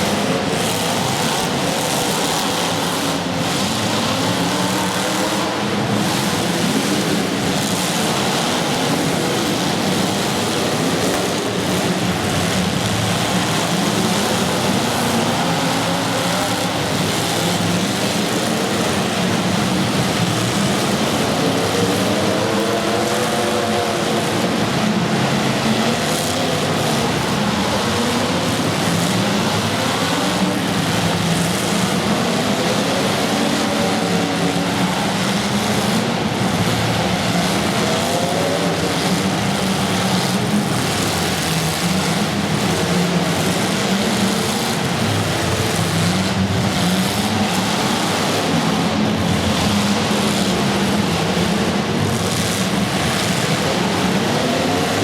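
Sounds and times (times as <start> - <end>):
small racing engines: 0.0 - 55.0.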